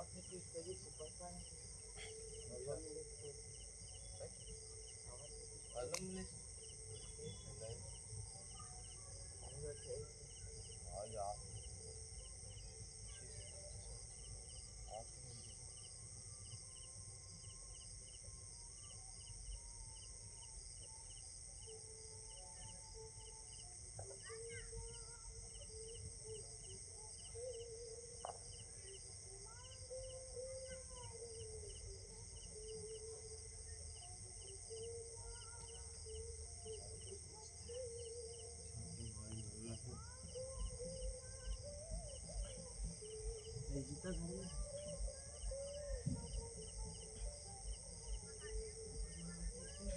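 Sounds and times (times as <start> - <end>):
cricket-like chirp: 0.0 - 49.9.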